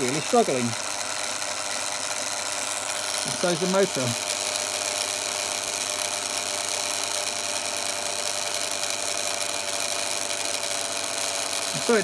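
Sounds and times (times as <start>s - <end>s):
motor and gears whining: 0.0s - 12.0s.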